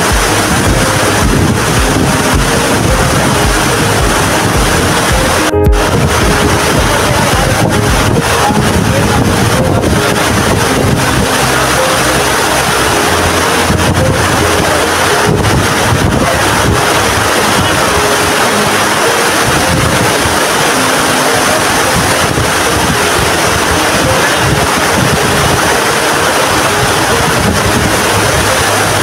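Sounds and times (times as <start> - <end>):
waterfall pouring onto rocks: 0.0 - 29.0
wind buffeting microphone: 0.0 - 29.0.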